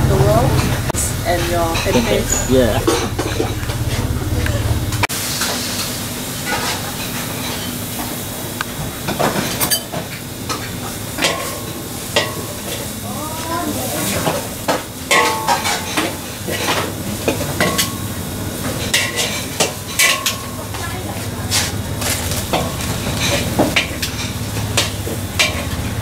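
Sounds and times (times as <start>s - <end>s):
wok sizzling: 0.0s - 26.0s.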